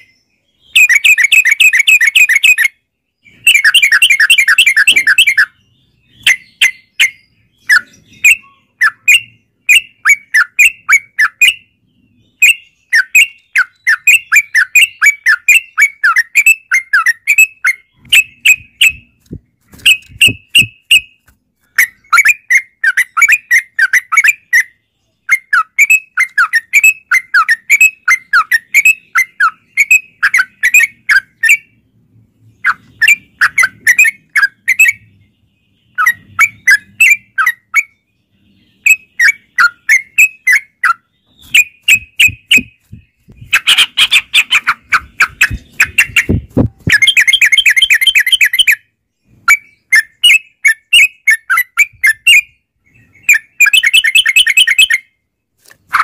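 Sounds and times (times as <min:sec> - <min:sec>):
bulbul chirping song: 0:00.0 - 0:56.0.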